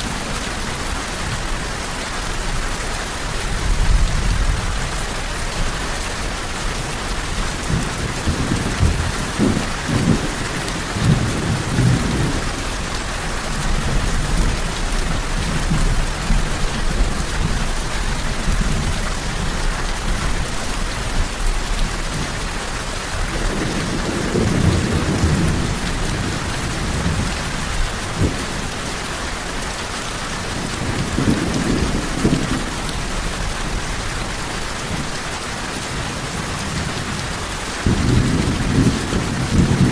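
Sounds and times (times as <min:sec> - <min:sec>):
heavy rain: 0:00.0 - 0:39.9
thunder rumbles: 0:03.2 - 0:22.5, 0:23.2 - 0:29.6, 0:30.3 - 0:35.1, 0:35.9 - 0:39.9.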